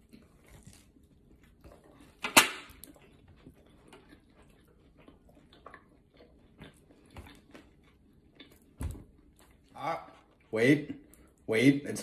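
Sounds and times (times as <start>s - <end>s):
faint chewing: 0.0s - 11.5s
soft mouth clicks and crunches: 0.0s - 11.5s.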